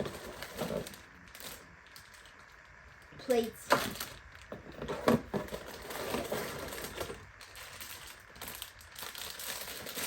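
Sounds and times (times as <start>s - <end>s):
plastic bricks rattling in bags: 0.0s - 2.6s, 3.4s - 10.0s
plastic bag crinkling: 0.0s - 10.0s.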